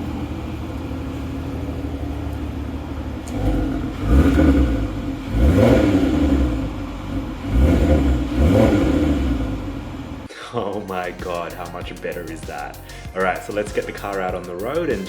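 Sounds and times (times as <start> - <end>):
car engine idling and revving: 0.0 - 10.3, 10.9 - 15.0.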